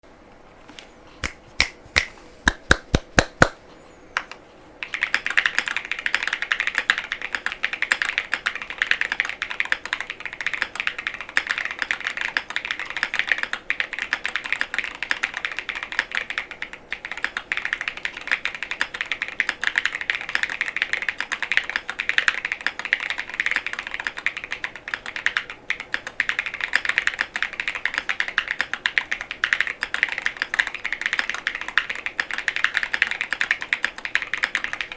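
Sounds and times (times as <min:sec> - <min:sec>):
mechanical keyboard typing: 0:04.8 - 0:34.9.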